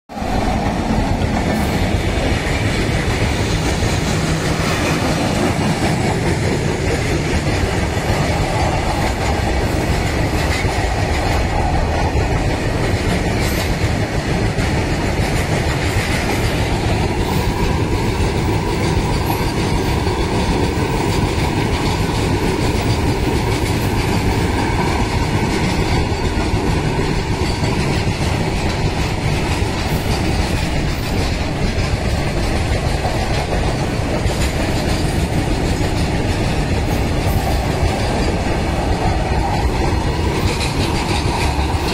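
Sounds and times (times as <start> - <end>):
freight train passing: 0.1 - 41.9
steel wheels rumbling on rails: 0.1 - 41.9.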